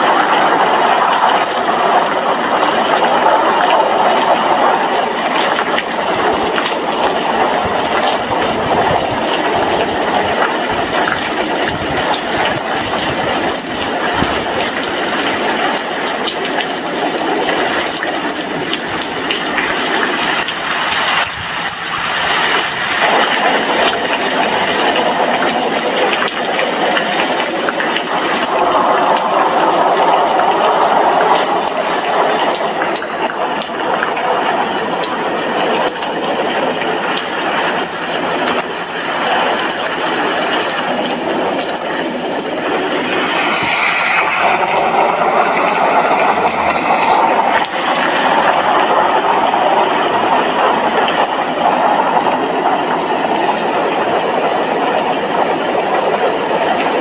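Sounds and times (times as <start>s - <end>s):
steady rain on window: 0.0s - 57.0s.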